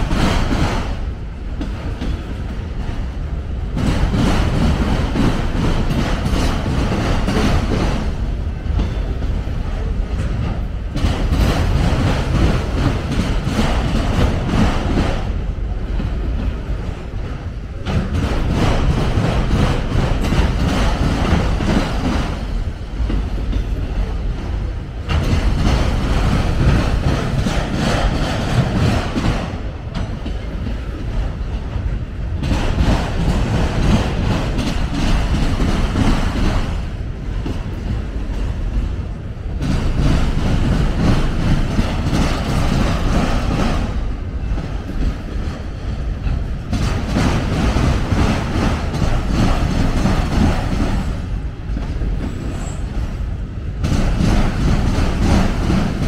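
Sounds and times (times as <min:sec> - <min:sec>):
freight train wheels on rail: 0:00.0 - 0:56.0.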